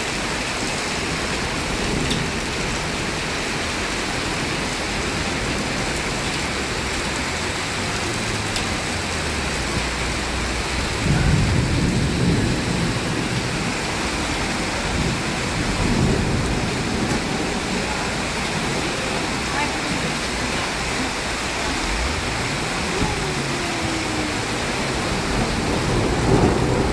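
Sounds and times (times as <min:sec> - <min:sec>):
heavy rain pouring: 0:00.0 - 0:26.9
thunder rumble: 0:00.2 - 0:26.9.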